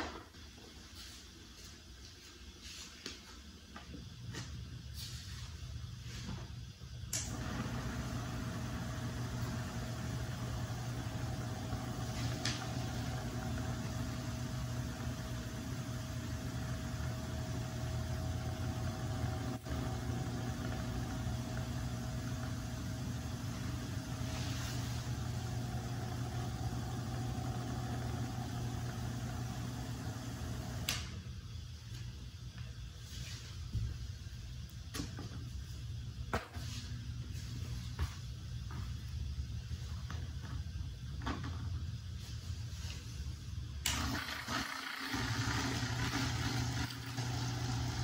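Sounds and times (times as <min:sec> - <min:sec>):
desk fan whirring: 0:00.0 - 0:48.0.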